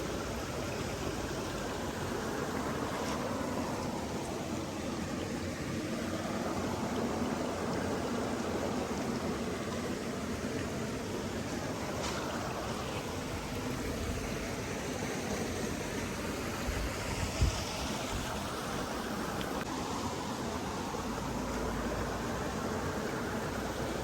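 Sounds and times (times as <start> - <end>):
stream running: 0.0 - 24.0.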